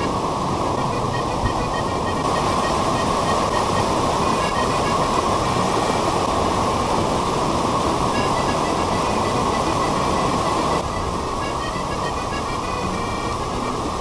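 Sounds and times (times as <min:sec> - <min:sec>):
rushing water roar: 0:00.0 - 0:14.0.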